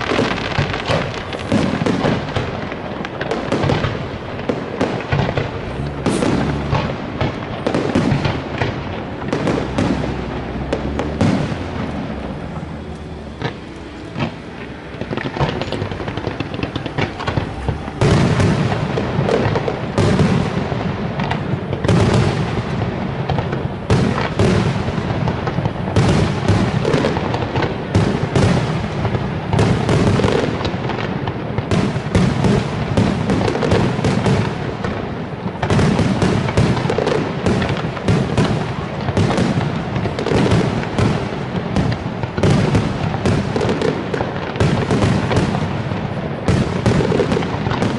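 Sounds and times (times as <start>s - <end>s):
fireworks shell bursts and crackle: 0.0s - 47.9s.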